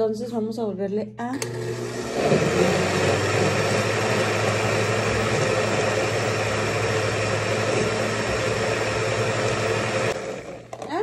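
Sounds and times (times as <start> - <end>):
blender running: 1.3 - 11.0.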